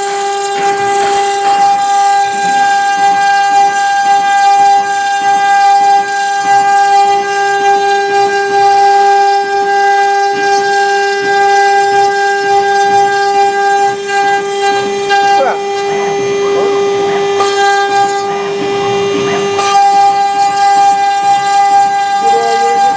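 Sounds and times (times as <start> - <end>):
cutter engraving wood: 0.0 - 22.9
router spindle whine: 0.0 - 22.9.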